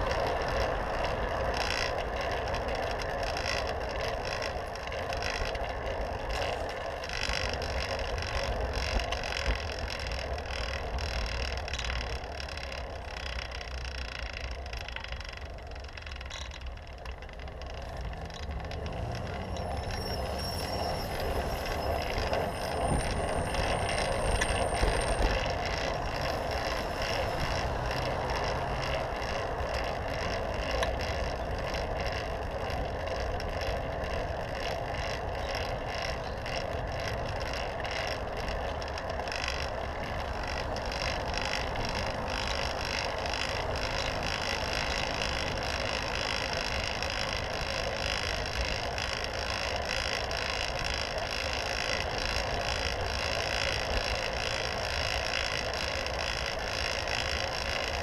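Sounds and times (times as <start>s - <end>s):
bicycle tyres on asphalt: 0.0s - 58.0s
car engine hum: 0.0s - 58.0s.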